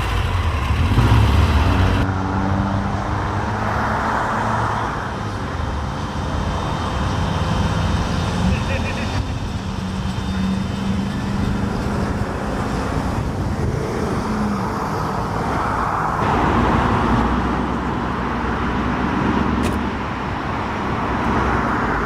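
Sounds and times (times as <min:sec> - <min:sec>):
traffic hum: 0:00.0 - 0:22.0.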